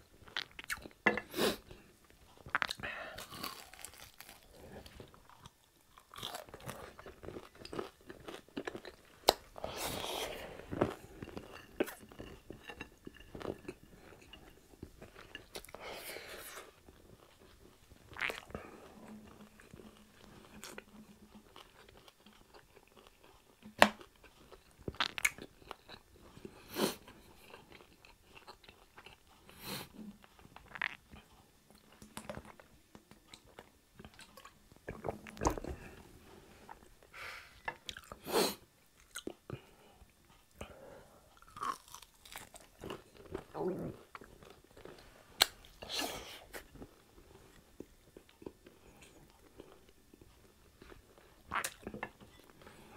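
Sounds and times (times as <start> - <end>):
person chewing crispy food: 0.2 - 1.0, 2.1 - 36.0, 37.6 - 38.3, 39.0 - 40.6, 41.2 - 52.9.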